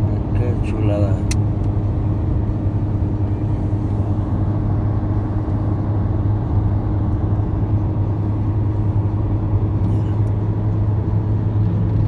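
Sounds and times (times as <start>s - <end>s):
car engine and tyres drone: 0.0s - 12.0s.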